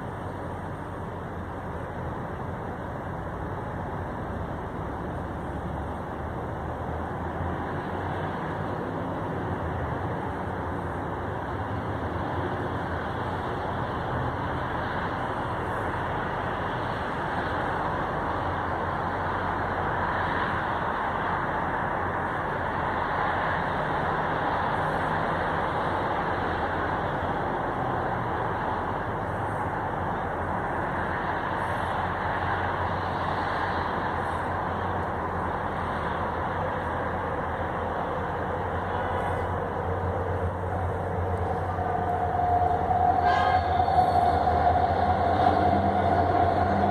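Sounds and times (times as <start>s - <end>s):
diesel locomotive rumbling: 0.0s - 46.9s
traffic noise: 0.0s - 46.9s.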